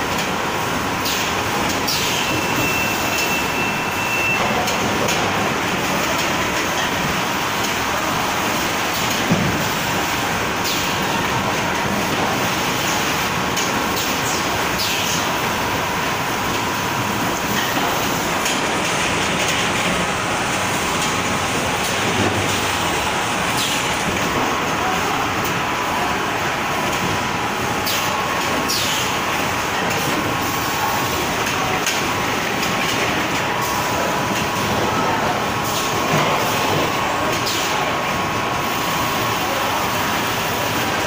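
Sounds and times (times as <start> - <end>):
machinery and conveyors din: 0.0 - 41.0.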